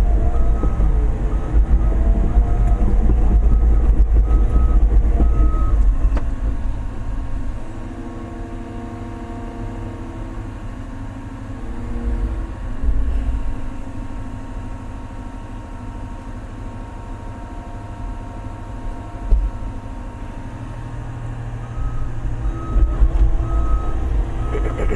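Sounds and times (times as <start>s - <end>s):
excavator diesel engine: 0.0s - 24.9s.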